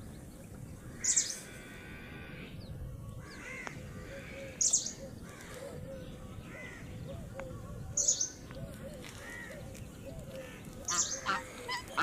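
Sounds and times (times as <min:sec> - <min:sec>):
soft low bird calls: 0:00.0 - 0:12.0.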